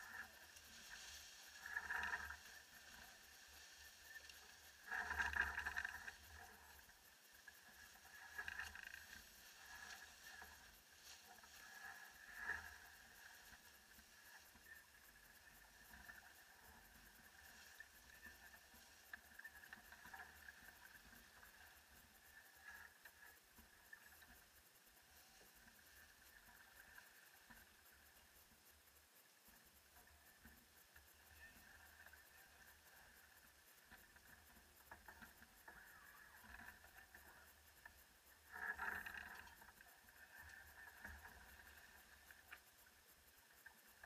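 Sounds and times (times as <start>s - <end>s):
wind: 0.0s - 44.0s.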